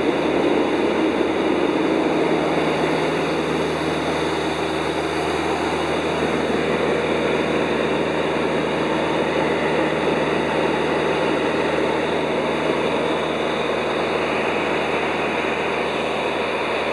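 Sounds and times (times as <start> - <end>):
aircraft engine and propeller drone: 0.0 - 16.9
airflow rush: 0.0 - 16.9.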